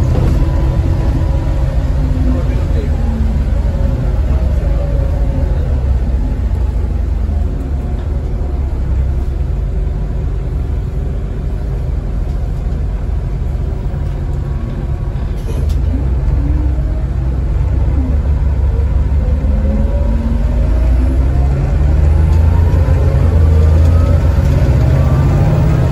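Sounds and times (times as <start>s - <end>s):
bus diesel engine rumble: 0.0s - 25.9s.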